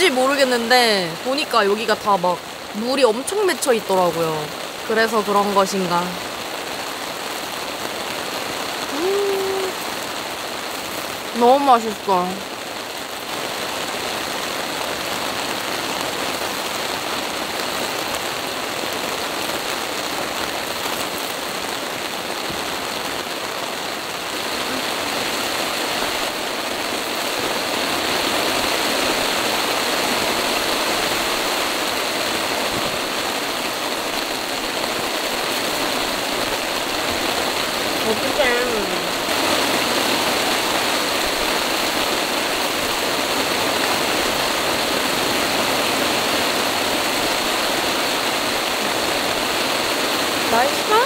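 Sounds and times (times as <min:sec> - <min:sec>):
rain falling steadily: 0:00.0 - 0:51.0.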